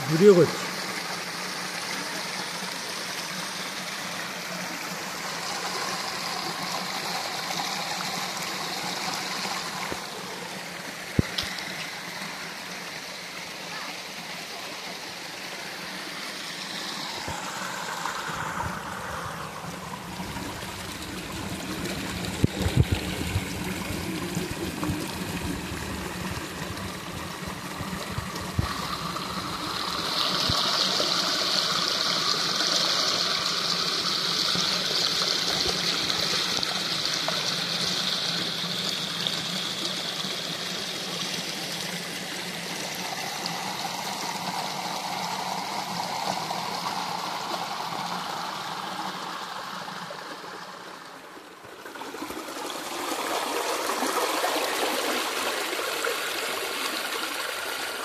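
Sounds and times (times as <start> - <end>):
waterfall stream running: 0.0 - 58.0.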